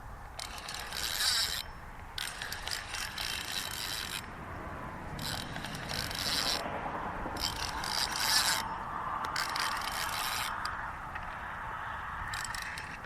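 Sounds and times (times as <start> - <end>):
fishing reel gears whirring: 0.4 - 4.4, 5.1 - 6.7, 7.3 - 13.0.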